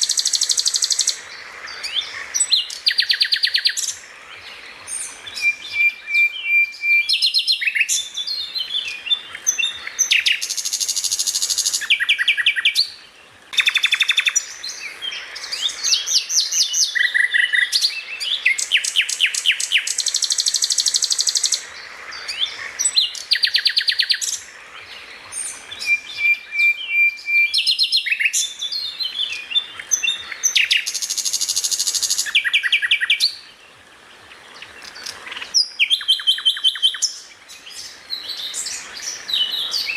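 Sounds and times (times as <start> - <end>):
songbird singing trills and chirps: 0.0 - 39.9.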